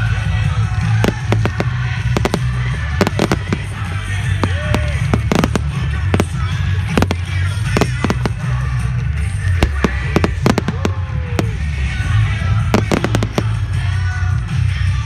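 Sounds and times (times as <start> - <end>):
fireworks bangs and pops: 0.0 - 15.0
music playing: 0.0 - 15.0.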